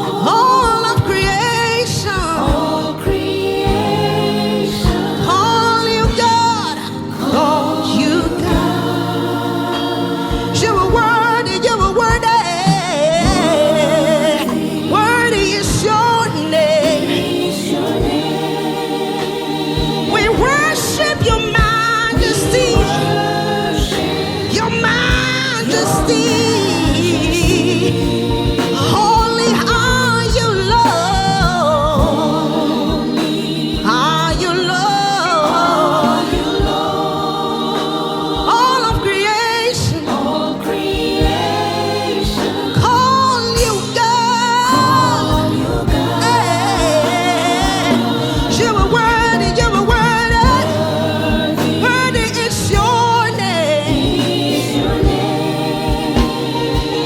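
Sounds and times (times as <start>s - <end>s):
voices singing: 0.0s - 57.0s
steady drum beat: 2.2s - 12.4s, 13.2s - 15.8s, 16.5s - 34.6s, 35.4s - 39.2s, 40.0s - 44.0s, 44.7s - 57.0s.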